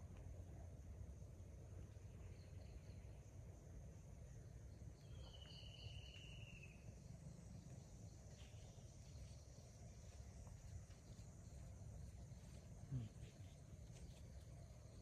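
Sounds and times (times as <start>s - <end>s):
high insect drone: 0.1s - 15.0s.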